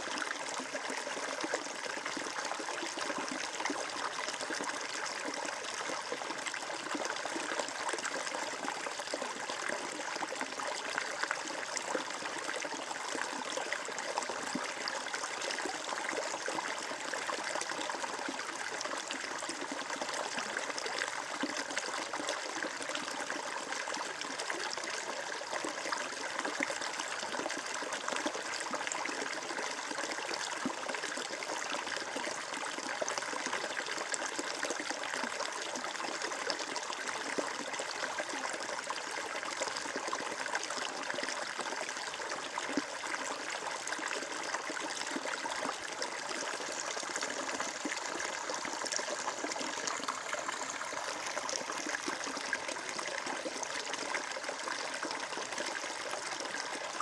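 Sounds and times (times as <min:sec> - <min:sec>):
water flowing over stones: 0:00.0 - 0:57.0.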